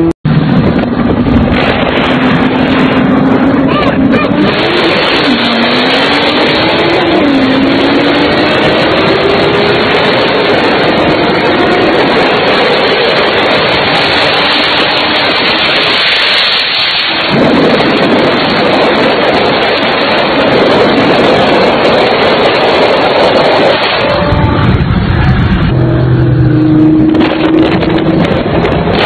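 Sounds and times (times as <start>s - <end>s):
racing car engines roaring: 0.0s - 29.0s.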